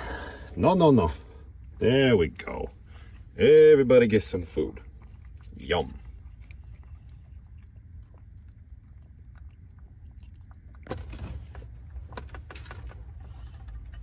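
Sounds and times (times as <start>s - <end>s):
cats chewing and licking: 0.0s - 14.0s
low steady hum: 0.0s - 14.0s.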